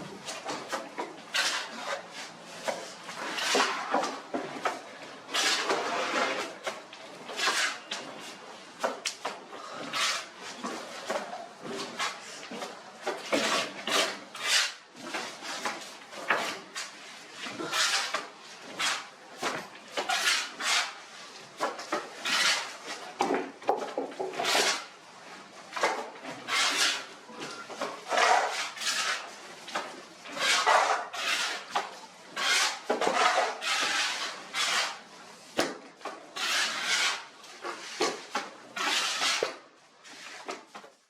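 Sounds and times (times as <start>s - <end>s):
trowel scraping wet plaster: 0.2s - 40.7s.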